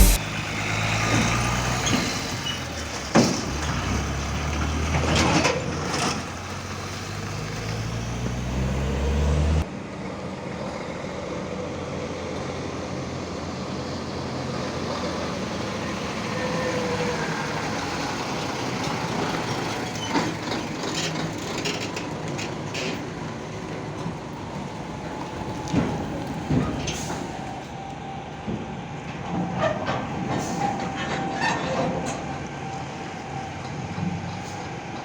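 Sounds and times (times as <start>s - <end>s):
truck engine and road noise: 0.0s - 35.0s.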